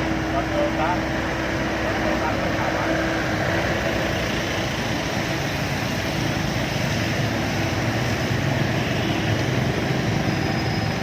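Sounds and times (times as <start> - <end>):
diesel machinery engine humming: 0.0 - 11.0.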